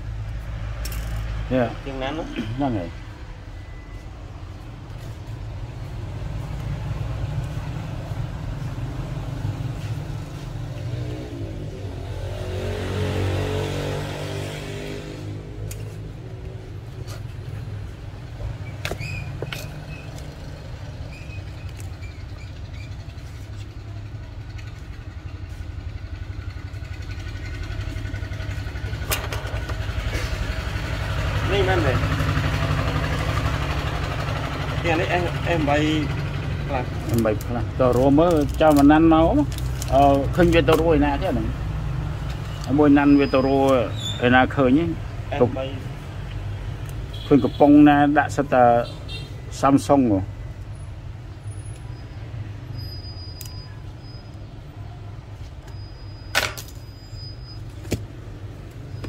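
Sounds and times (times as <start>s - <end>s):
motor vehicle engine rumbling: 0.0s - 59.0s.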